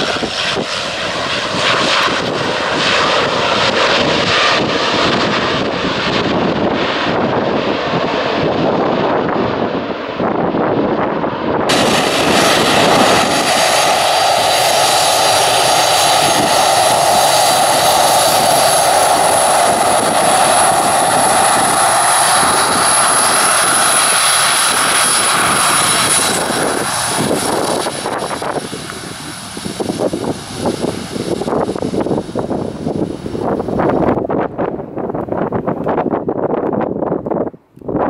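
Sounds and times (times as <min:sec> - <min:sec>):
jet engines whining: 0:00.0 - 0:37.4.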